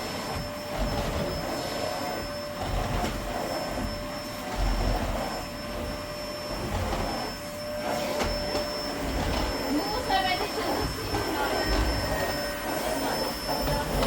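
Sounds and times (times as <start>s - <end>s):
vacuum cleaner on carpet: 0.0s - 14.0s.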